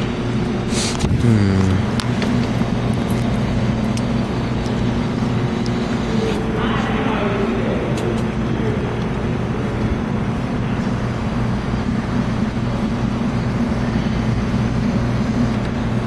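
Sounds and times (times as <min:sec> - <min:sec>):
low hum with rumble: 0:00.0 - 0:16.0.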